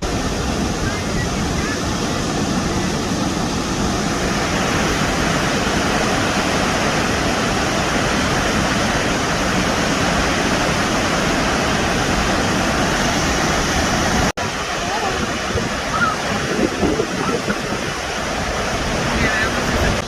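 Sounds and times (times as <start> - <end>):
loud waterfall rushing: 0.0 - 20.0.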